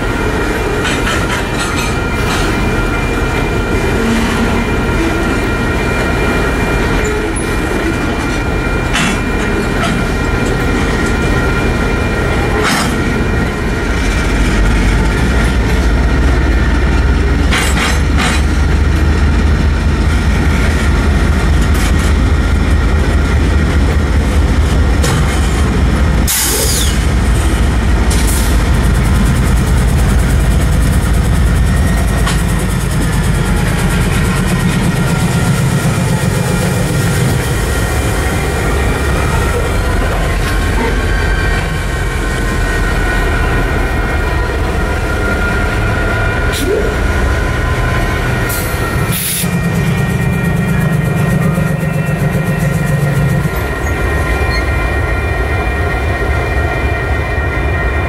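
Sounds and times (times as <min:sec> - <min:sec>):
train wheels clanking and squealing: 0:00.0 - 0:19.1, 0:24.2 - 0:58.0
deep diesel locomotive rumble: 0:00.0 - 0:58.0.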